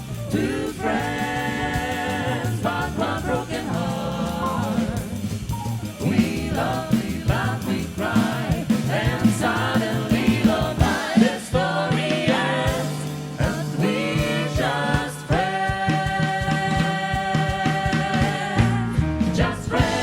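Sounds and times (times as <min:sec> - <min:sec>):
bass line: 0:00.0 - 0:20.0
percussion: 0:00.0 - 0:20.0
vocal group singing in harmony: 0:00.0 - 0:20.0.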